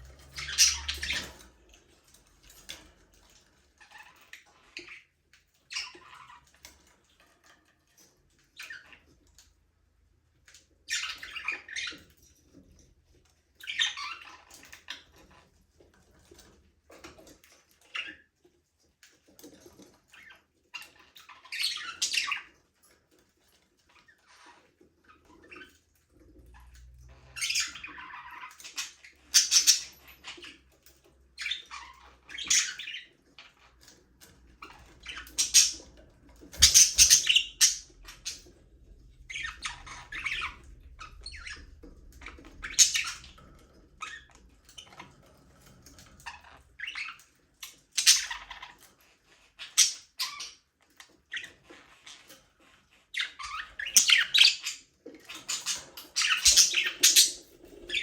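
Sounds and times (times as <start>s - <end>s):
budgerigars chirping and squawking: 0.0s - 9.6s, 10.3s - 18.4s, 19.2s - 58.0s.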